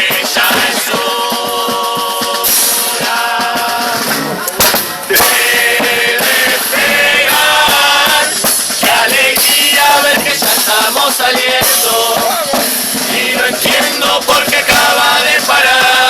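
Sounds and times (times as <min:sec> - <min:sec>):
carnival percussion: 0:00.0 - 0:16.0
chorus singing together: 0:00.0 - 0:16.0.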